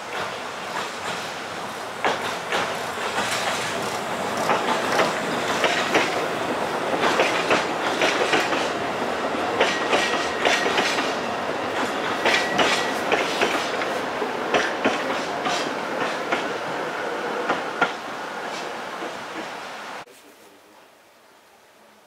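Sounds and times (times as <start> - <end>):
train wheels clicking over joints: 0.0 - 19.6.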